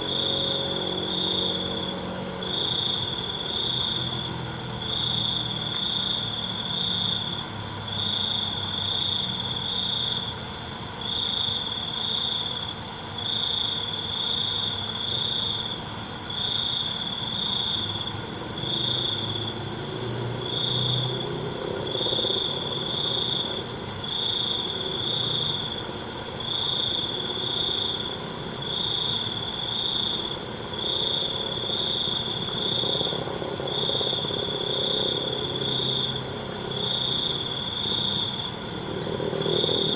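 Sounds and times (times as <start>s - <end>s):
cricket chirping: 0.0s - 39.9s
high-pitched insect hum: 0.0s - 39.9s.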